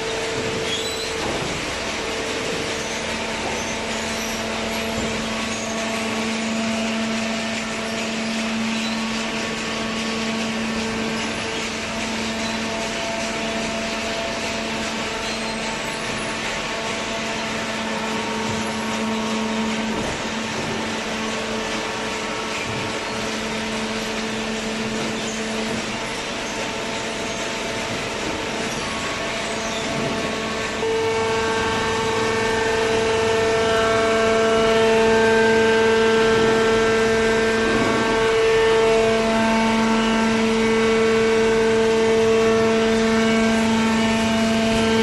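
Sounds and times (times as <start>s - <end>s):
hydraulic baler motor humming: 0.0s - 45.0s.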